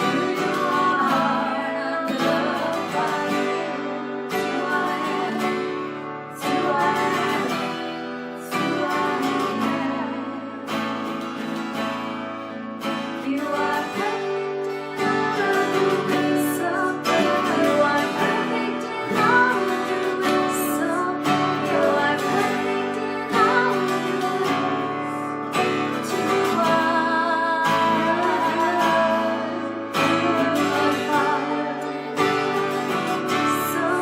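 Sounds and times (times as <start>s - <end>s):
person singing: 0.0s - 12.1s, 12.8s - 34.0s
acoustic guitar strumming: 0.0s - 34.0s.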